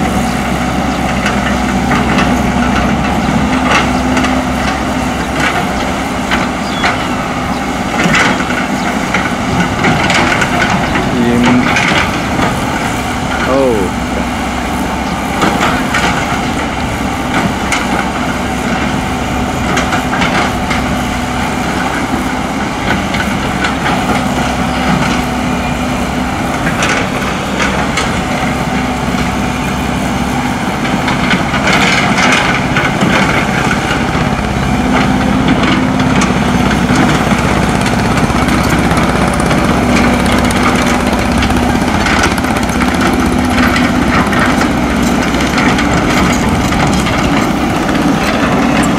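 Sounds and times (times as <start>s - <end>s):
heavy machinery diesel engines: 0.0s - 48.9s.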